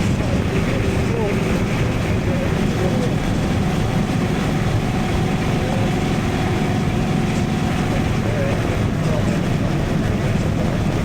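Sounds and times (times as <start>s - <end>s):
motorcycle engine cruising: 0.0s - 11.0s
road and wind noise: 0.0s - 11.0s.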